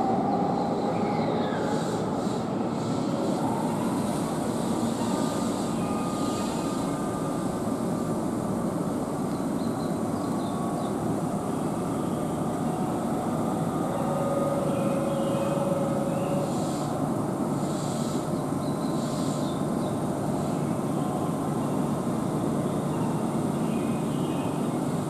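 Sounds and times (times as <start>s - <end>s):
faint train whine: 0.0s - 25.0s
train rolling rumble: 0.0s - 25.0s.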